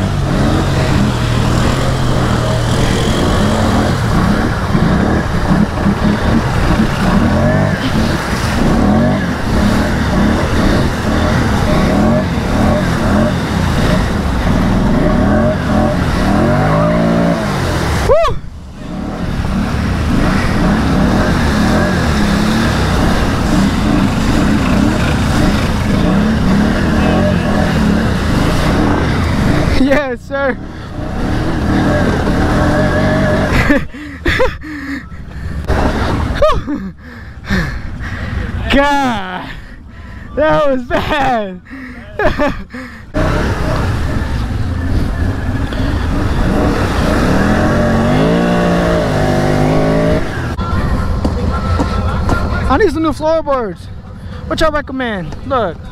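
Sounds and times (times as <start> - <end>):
rider grunting: 0.0 - 30.0, 30.6 - 40.4, 41.2 - 50.5
atv engine revving: 0.0 - 34.6, 35.2 - 39.4, 43.1 - 53.6
steady rushing noise: 0.0 - 41.9, 42.6 - 55.9.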